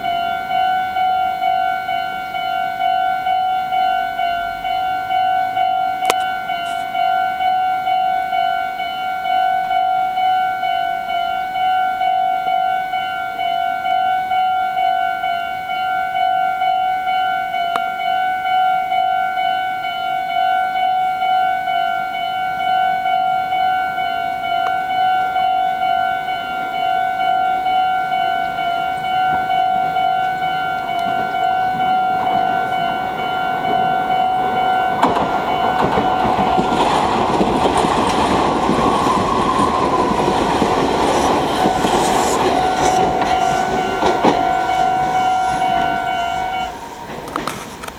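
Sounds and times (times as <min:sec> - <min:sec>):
electric train rumbling: 0:00.0 - 0:47.9
level crossing bell clanging: 0:00.0 - 0:47.9.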